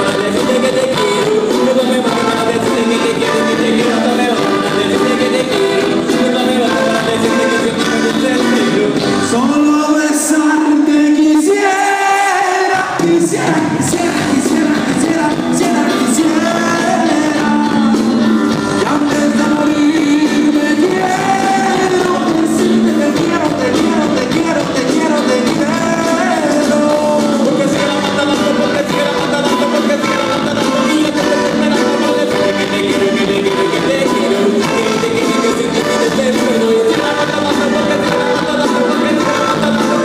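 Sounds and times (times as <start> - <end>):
lead singer singing: 0.0 - 40.0
live band music: 0.0 - 40.0.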